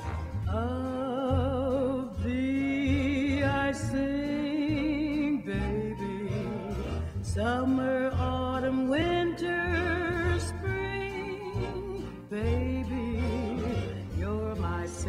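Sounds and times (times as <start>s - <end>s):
bass line and instrumental backing: 0.0s - 15.0s
person singing with vibrato: 0.0s - 15.0s.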